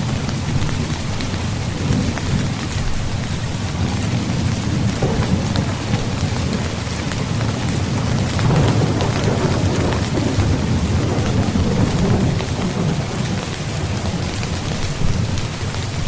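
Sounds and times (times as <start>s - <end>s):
deep continuous rumble: 0.0s - 15.7s
rain on a tent: 0.0s - 16.0s.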